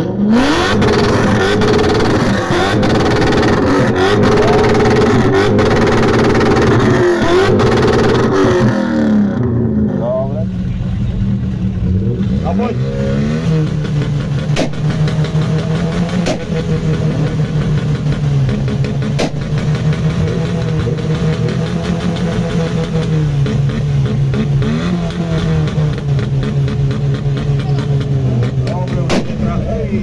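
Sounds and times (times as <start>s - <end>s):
car engine at high revs: 0.0s - 30.0s
sharp exhaust pops: 0.7s - 8.9s, 13.4s - 30.0s.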